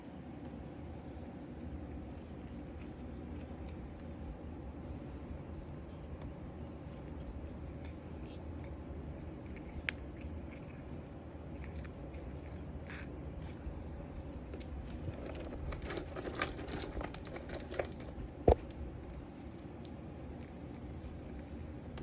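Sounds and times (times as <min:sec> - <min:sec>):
cat gnawing a stick: 0:00.1 - 0:22.0.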